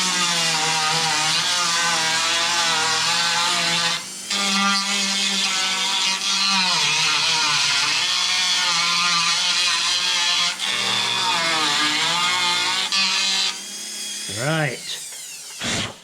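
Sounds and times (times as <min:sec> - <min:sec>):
rotary tool grinding metal: 0:00.0 - 0:16.0.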